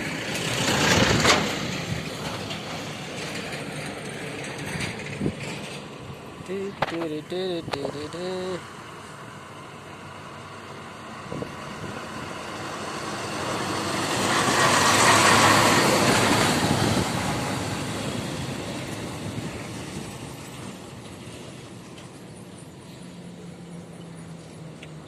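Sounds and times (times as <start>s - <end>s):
truck driving past: 0.0s - 25.0s.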